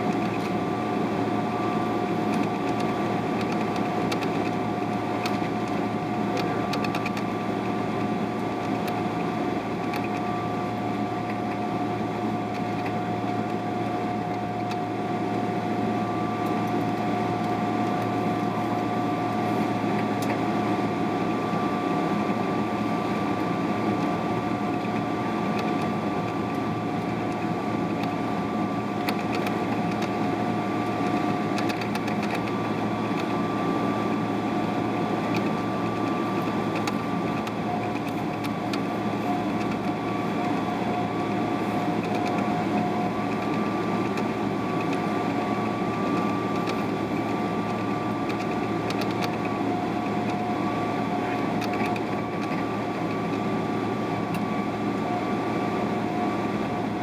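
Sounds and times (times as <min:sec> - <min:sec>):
constant whining tones: 0:00.0 - 0:57.0
jet engines and air conditioning hum: 0:00.0 - 0:57.0.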